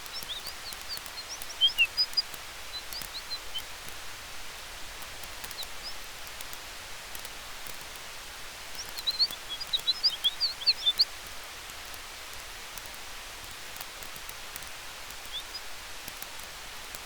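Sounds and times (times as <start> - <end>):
campfire crackling: 0.0 - 17.0
wind through trees: 0.0 - 17.0.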